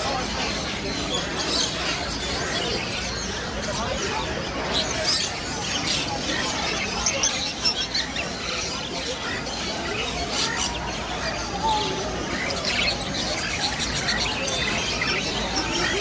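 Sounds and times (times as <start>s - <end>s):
caged birds chirping and squawking: 0.0s - 16.0s
crowd babble: 0.0s - 16.0s.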